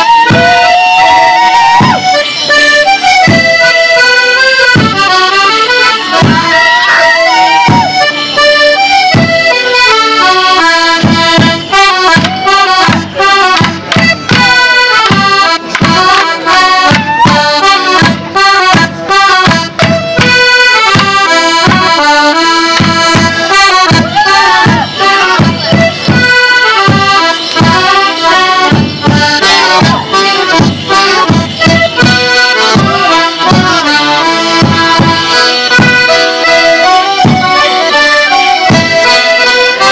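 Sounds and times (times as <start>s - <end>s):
folk dance tune on accordions: 0.0s - 39.9s
low knocking beat: 1.6s - 6.6s, 7.6s - 37.9s, 38.6s - 39.3s.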